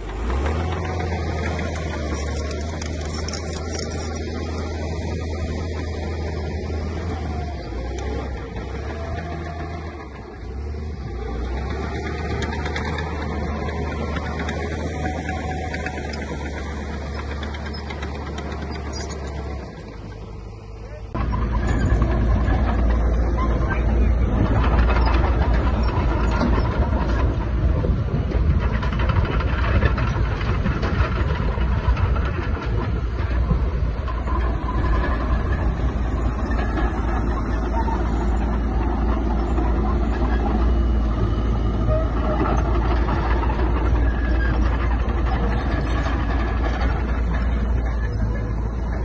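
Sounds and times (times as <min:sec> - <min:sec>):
heavy diesel machinery running: 0:00.0 - 0:49.0.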